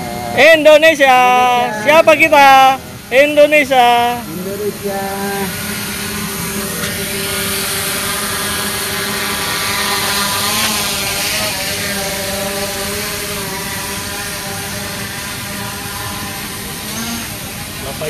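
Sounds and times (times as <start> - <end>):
camera drone hovering: 0.0 - 18.0.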